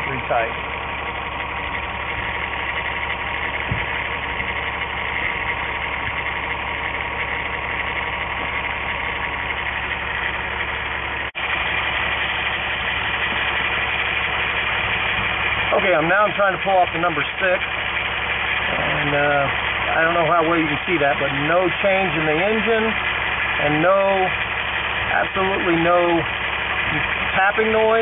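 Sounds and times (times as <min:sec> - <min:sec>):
engine idling roughly with misfire: 0:00.0 - 0:28.0.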